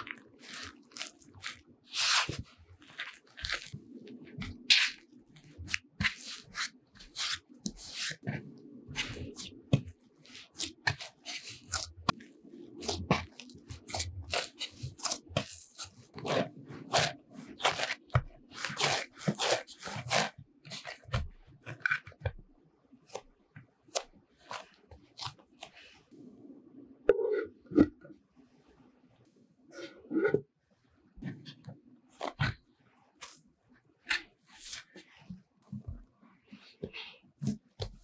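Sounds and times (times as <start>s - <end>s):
bread dough kneaded by hand: 0.0s - 26.2s, 31.2s - 38.0s.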